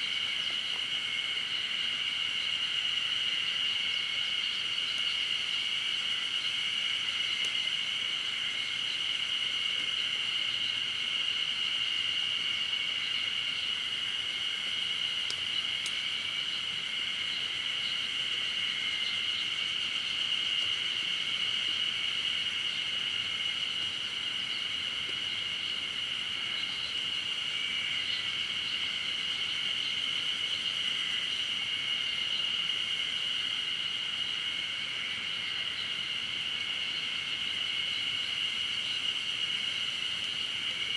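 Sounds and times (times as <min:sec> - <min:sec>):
insects chorus droning: 0:00.0 - 0:40.9.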